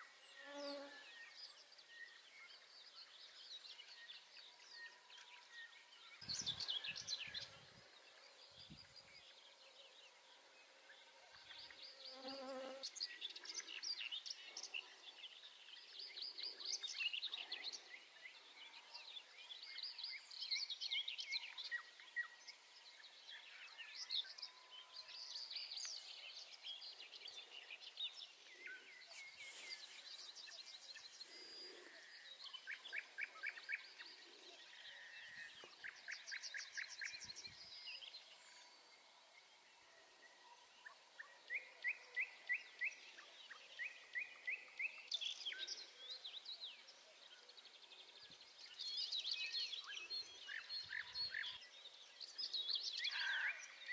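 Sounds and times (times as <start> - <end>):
songbirds singing and calling: 0.0 - 53.9.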